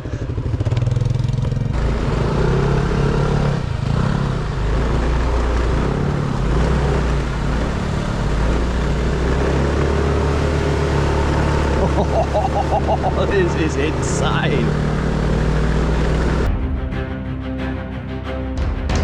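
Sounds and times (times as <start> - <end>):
moped engine running: 0.0 - 16.6.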